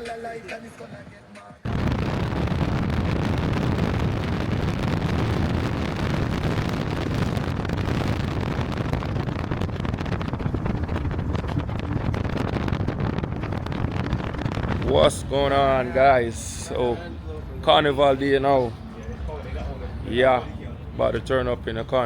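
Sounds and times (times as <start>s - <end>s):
wind buffeting microphone: 1.6s - 22.0s.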